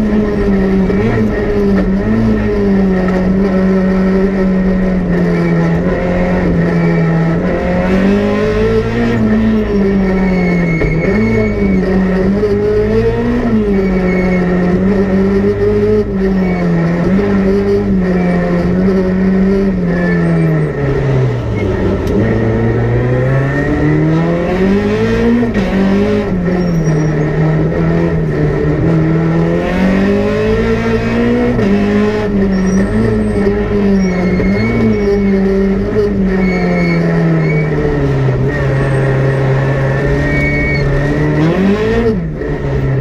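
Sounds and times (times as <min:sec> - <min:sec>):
car engine revving in cabin: 0:00.0 - 0:43.0.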